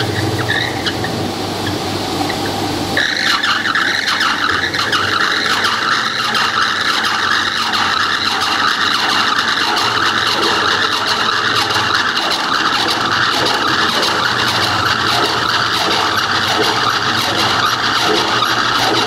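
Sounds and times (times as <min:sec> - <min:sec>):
belt drive humming whine: 0:00.0 - 0:19.0.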